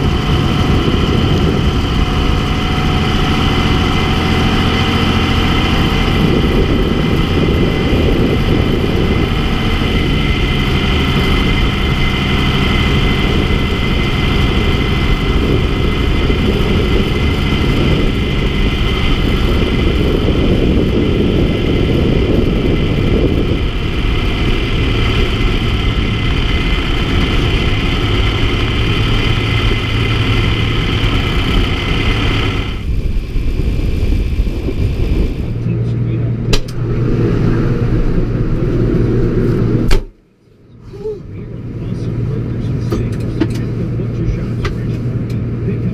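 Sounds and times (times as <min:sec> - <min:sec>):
steady low hum: 0:00.0 - 0:45.9
tractor engine running: 0:00.0 - 0:45.9.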